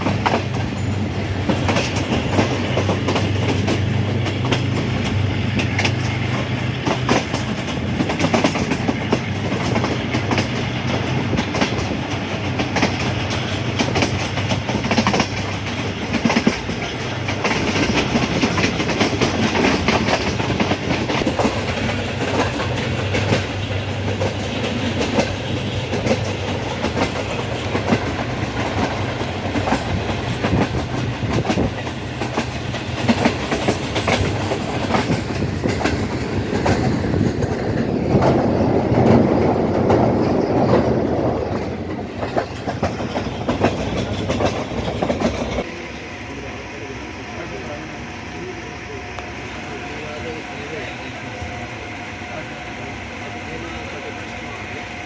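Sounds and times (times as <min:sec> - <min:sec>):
train wheels clacking over rail joints: 0:00.0 - 0:45.7.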